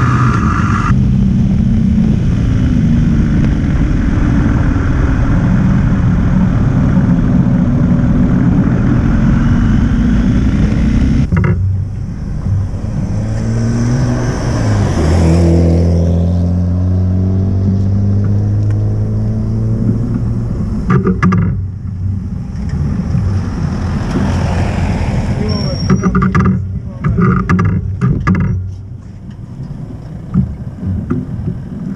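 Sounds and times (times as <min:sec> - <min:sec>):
car passing: 0:00.0 - 0:27.4
wind rush on microphone: 0:00.0 - 0:29.0.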